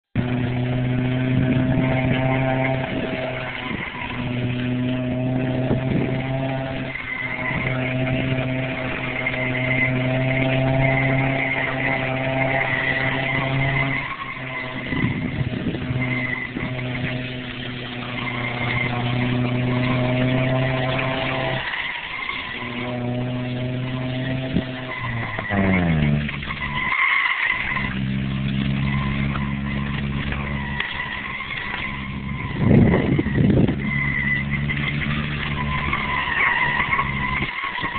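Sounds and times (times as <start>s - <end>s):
car engine running: 0.0s - 37.9s
tyres screeching: 0.2s - 37.9s.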